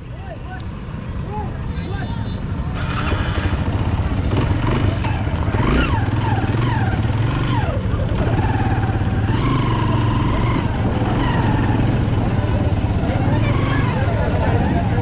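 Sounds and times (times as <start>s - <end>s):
motorcycle engine revving: 2.6s - 15.0s.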